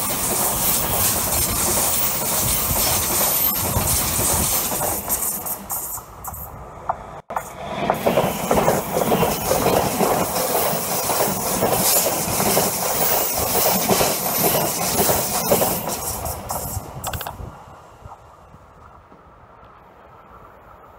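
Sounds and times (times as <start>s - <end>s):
wheels clicking over rail joints: 0.0s - 20.4s
train wheels rushing on rails: 0.0s - 20.9s.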